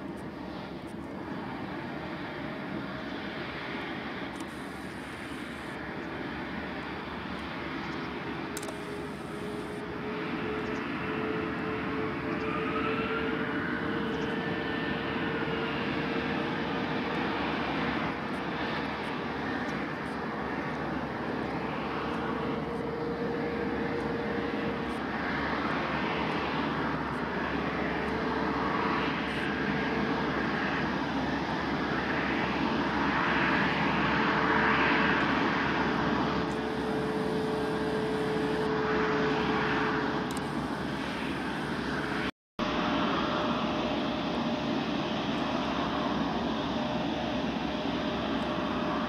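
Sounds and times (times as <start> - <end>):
jet engines rumbling with whine: 0.0 - 49.0.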